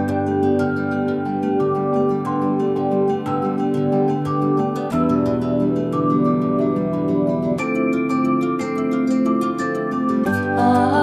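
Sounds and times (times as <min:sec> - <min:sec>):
soft new-age music: 0:00.0 - 0:11.0.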